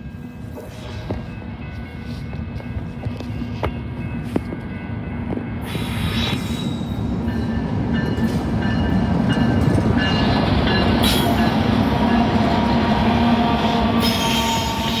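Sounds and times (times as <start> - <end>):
diesel locomotive engines running: 0.0 - 15.0
train wheels rolling on rail: 0.0 - 15.0.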